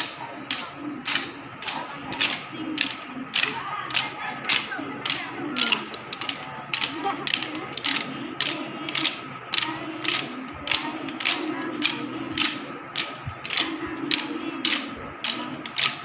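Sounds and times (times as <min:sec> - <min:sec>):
wooden sticks clacking: 0:00.0 - 0:16.0.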